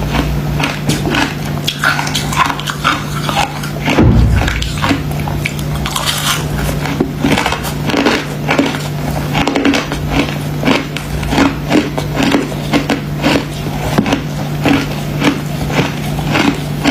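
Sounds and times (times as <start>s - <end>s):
ice being chewed: 0.0s - 16.9s
steady low hum: 0.0s - 16.9s.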